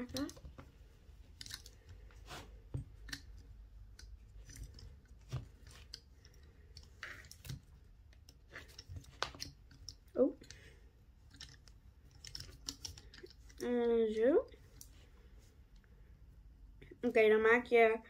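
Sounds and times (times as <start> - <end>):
cord rustling: 0.0 - 16.3.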